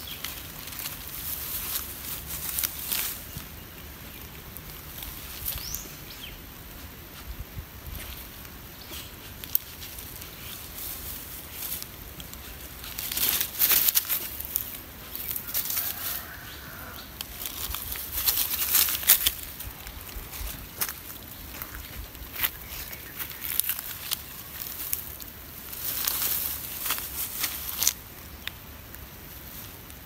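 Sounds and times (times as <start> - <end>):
plants rustling and crackling: 0.0 - 30.0.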